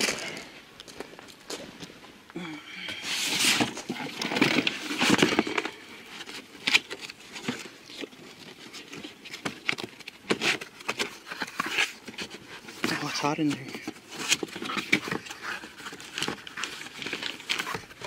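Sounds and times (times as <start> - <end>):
cardboard boxes rustling and scraping: 2.9 - 18.0.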